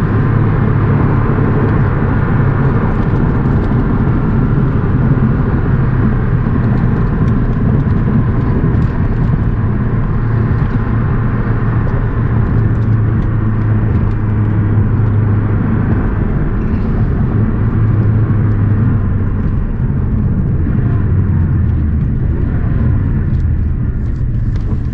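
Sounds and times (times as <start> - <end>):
car engine running: 0.0 - 24.9
tyre and road noise: 0.0 - 24.9.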